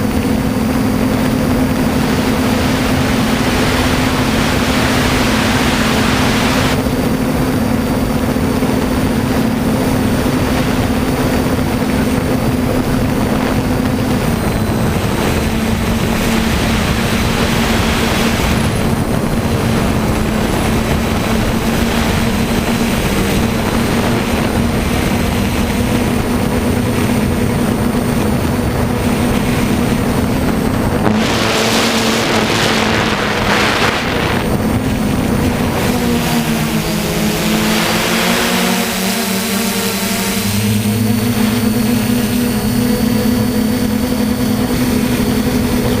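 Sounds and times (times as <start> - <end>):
quadcopter motors humming: 0.0 - 46.0
wind on microphone: 0.0 - 46.0.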